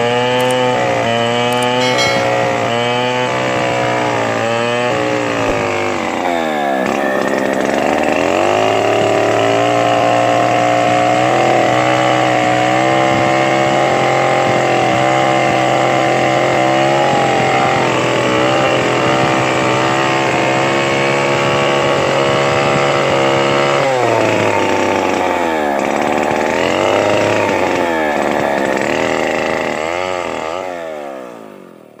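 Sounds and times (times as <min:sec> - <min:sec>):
chainsaw engine revving: 0:04.1 - 0:31.8.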